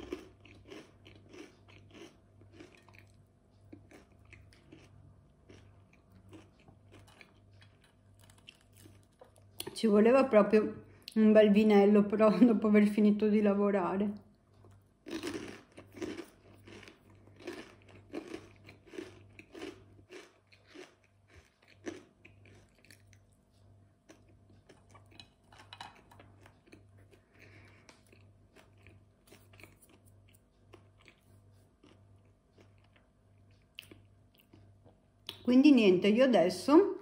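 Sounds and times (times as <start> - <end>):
chewing crunchy crisps: 0.0 - 9.8, 14.2 - 35.4.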